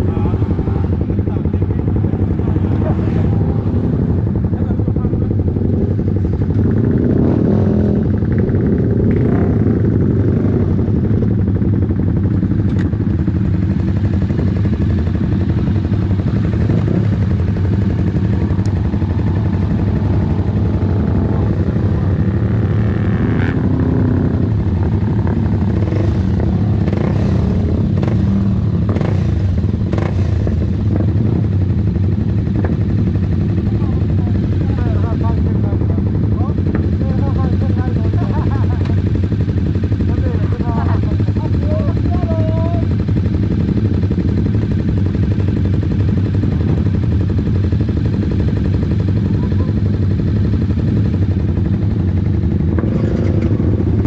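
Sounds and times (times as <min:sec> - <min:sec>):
motorcycle engines idling: 0:00.0 - 0:54.0.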